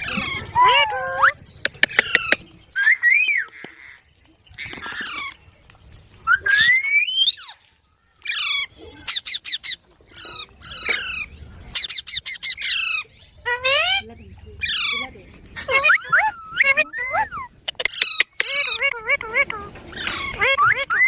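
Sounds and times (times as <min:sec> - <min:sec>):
parrot squawking and calling: 0:00.0 - 0:04.0, 0:06.2 - 0:21.0.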